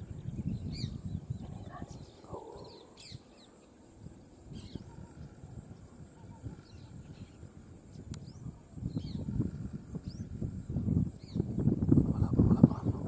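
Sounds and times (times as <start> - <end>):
high insect hum: 0.0 - 13.0
small birds chirping: 0.0 - 13.0.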